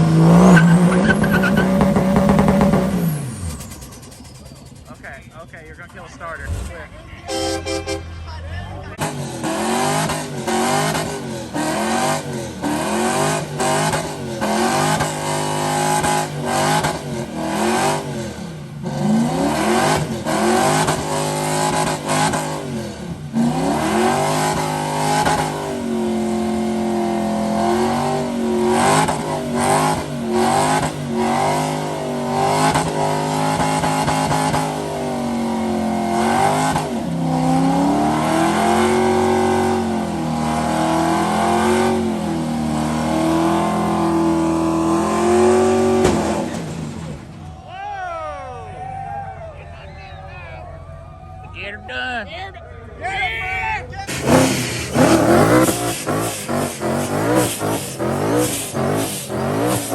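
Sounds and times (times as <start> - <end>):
engine revving hard: 0.0 - 3.9, 5.0 - 8.0, 8.8 - 47.3, 54.0 - 59.9.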